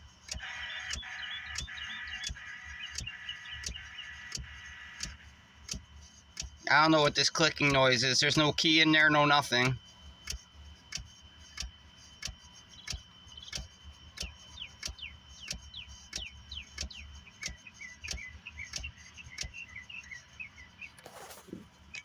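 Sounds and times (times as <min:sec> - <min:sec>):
regular clicking from car: 0:00.0 - 0:22.0
birds chirping: 0:00.3 - 0:09.8, 0:12.4 - 0:22.0.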